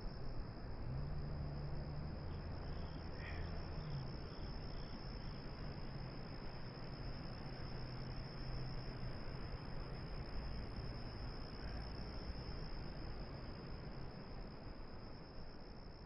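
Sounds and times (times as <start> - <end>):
insects trilling: 0.1 - 16.0.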